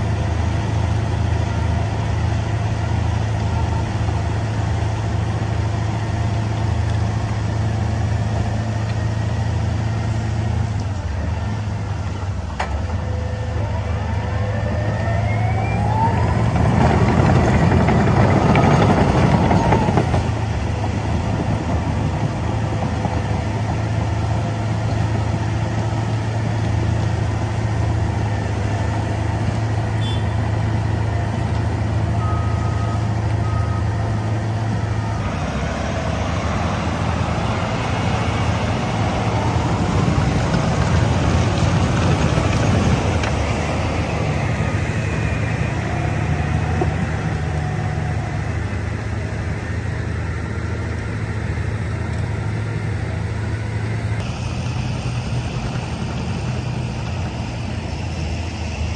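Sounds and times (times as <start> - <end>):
heavy machine engine running: 0.0 - 58.9.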